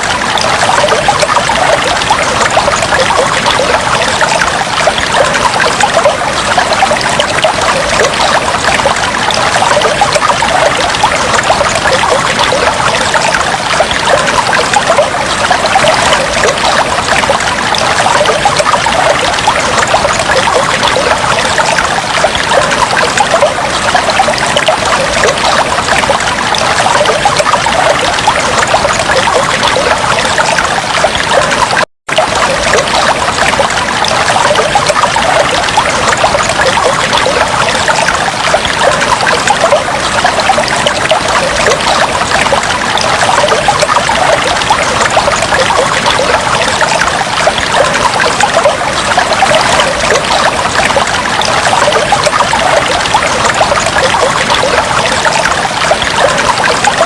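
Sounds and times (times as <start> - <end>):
aquarium water trickling: 0.0 - 57.0.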